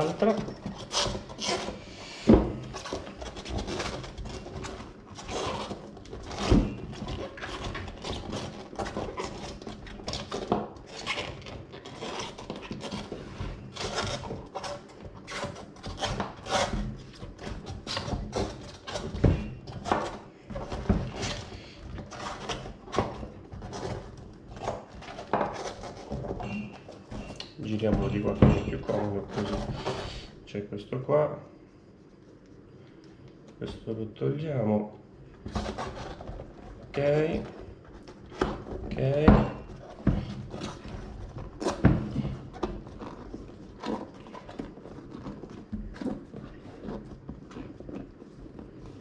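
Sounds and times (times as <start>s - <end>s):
rubber rubbing on rubber: 0.0s - 30.4s, 35.5s - 49.0s.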